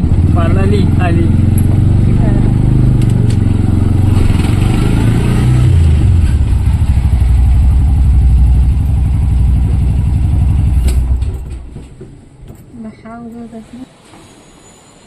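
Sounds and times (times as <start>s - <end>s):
auto-rickshaw engine running: 0.0s - 12.5s.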